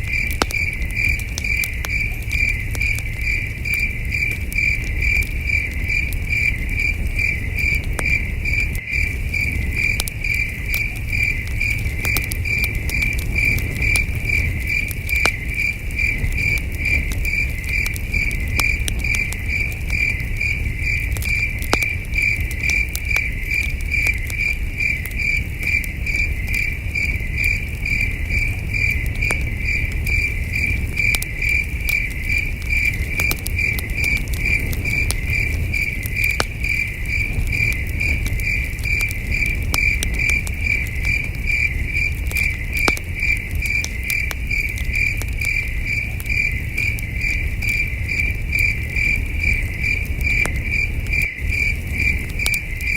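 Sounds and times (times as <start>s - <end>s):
campfire crackle: 0.0s - 52.9s
crickets chirping: 0.0s - 52.9s.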